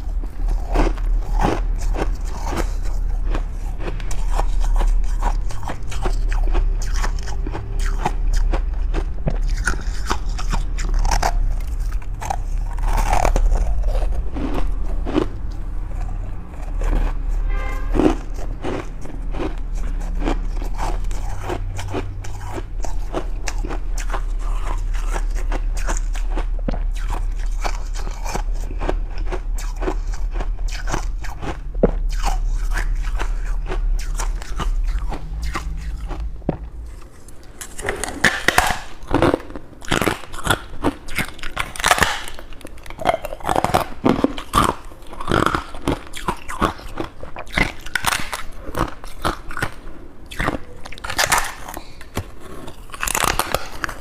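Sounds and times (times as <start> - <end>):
frost being chewed crunching: 0.0 - 54.0
steady low hum: 0.0 - 54.0.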